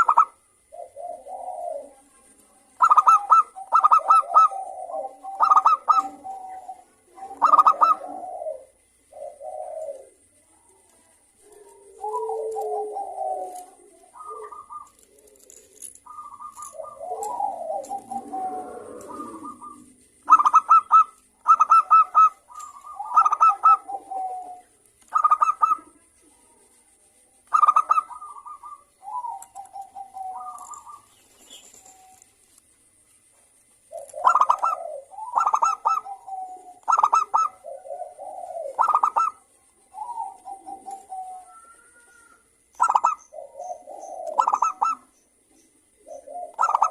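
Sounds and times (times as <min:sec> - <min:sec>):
dove cooing: 0:00.0 - 0:26.8, 0:27.4 - 0:33.2, 0:33.8 - 0:46.9.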